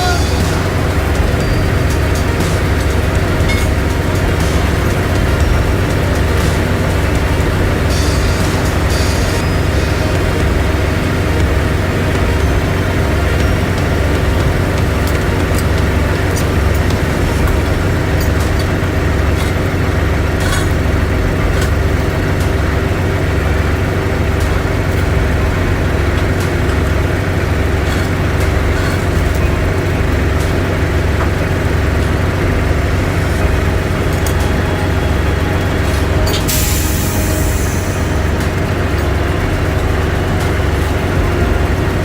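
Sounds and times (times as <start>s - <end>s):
large engine idling: 0.0s - 42.0s.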